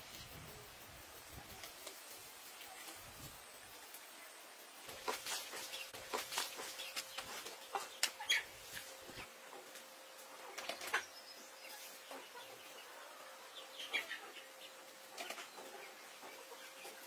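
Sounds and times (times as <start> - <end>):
background hiss: 0.0 - 17.0
chickens clucking: 0.1 - 17.0.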